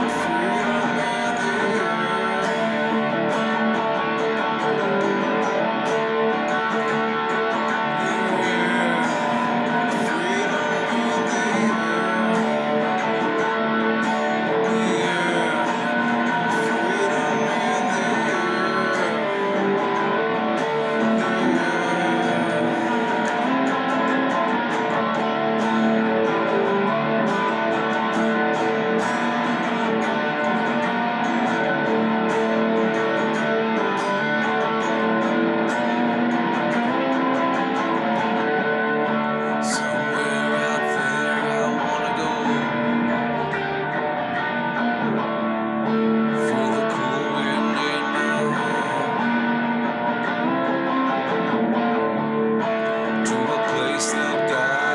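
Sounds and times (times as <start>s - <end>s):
electric guitar strumming: 0.0s - 54.9s.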